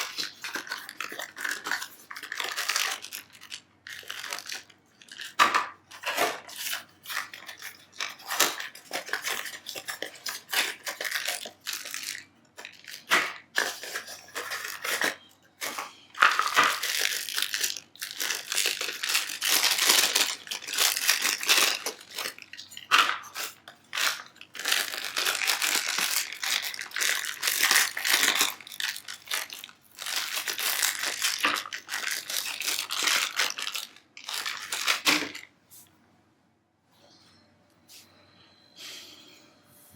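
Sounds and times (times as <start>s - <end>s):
packaging rustling and crinkling: 0.0s - 35.5s.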